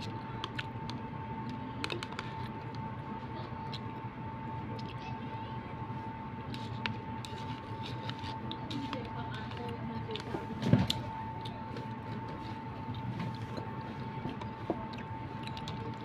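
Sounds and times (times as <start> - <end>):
background hum with high tone: 0.0 - 16.0.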